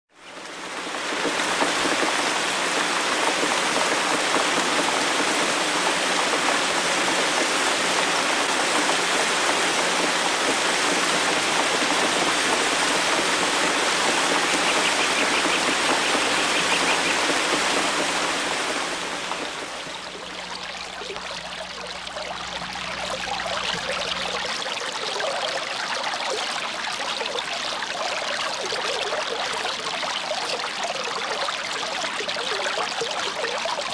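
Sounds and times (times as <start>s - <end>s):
water fountain splashing: 0.1s - 33.9s.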